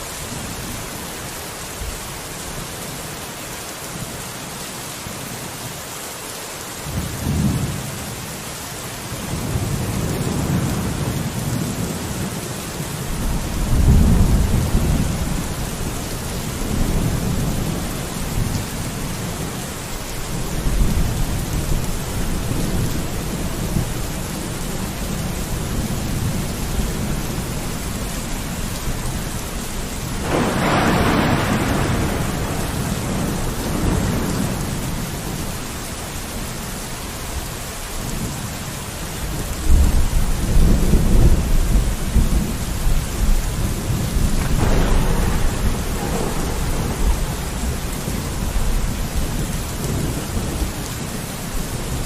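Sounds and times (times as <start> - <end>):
rain on a window: 0.0 - 52.0.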